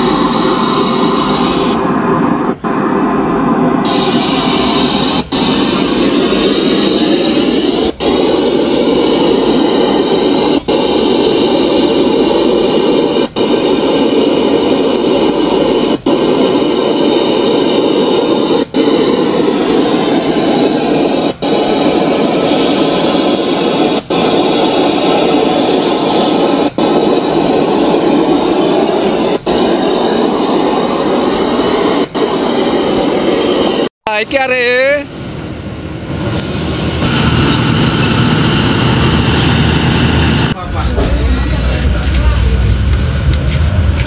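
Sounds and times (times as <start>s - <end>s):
distorted subwoofer noise: 0.0s - 44.0s.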